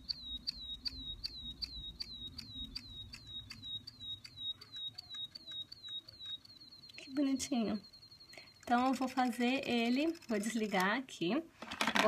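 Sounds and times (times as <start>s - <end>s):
electronic toy bird tweeting: 0.0s - 10.8s.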